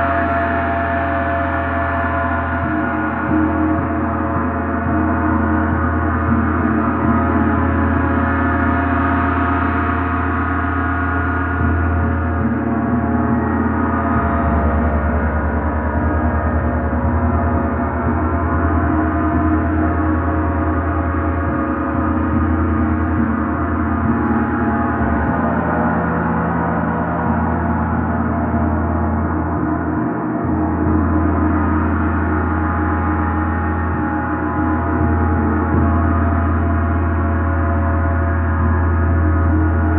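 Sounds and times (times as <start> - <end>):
gong ringing: 0.0 - 39.9.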